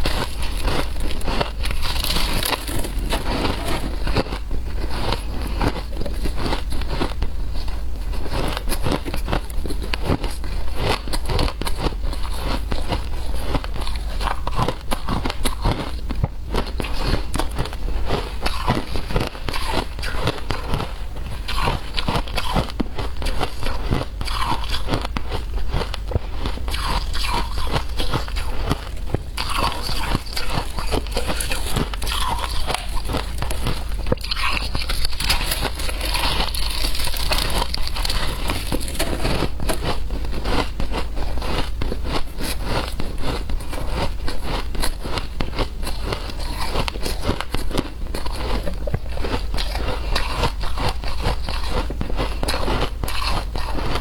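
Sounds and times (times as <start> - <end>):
chewing shaved ice crunching: 0.0 - 54.0.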